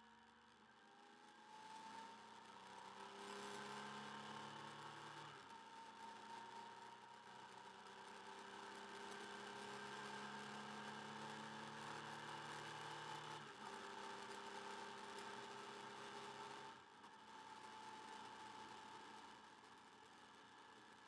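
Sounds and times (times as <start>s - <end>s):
faint motorcycle engine running: 0.0s - 21.0s.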